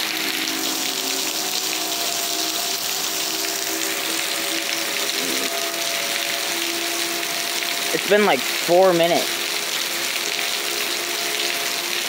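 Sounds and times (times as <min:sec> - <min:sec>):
faint tornado warning sirens: 0:00.0 - 0:12.0
heavy rain pouring: 0:00.0 - 0:12.0.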